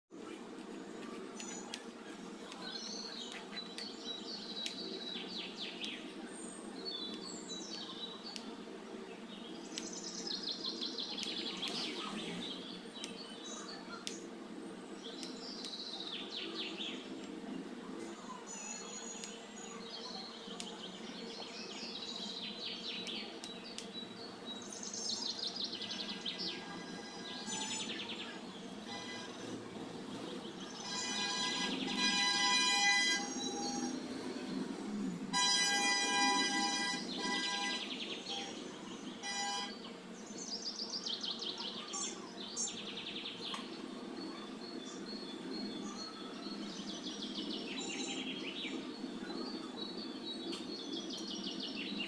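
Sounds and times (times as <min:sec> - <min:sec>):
low background noise: 0:00.1 - 0:52.0
small birds chirping: 0:00.2 - 0:52.0.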